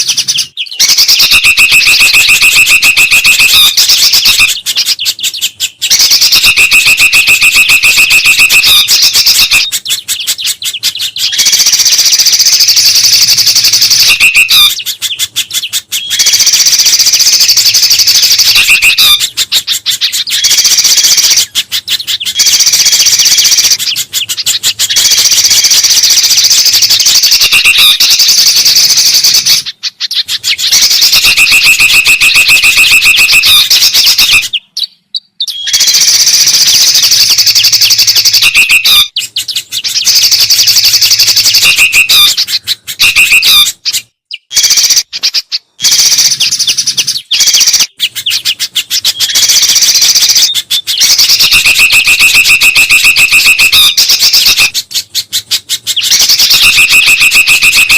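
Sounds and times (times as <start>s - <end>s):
songbird calls chattering: 0.0s - 57.9s.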